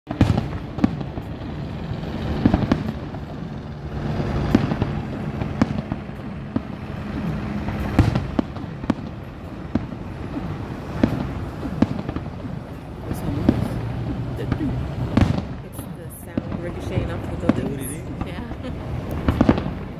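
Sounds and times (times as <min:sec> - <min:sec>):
background rumble: 0:00.1 - 0:19.9
fireworks bangs and crackles: 0:00.1 - 0:19.9.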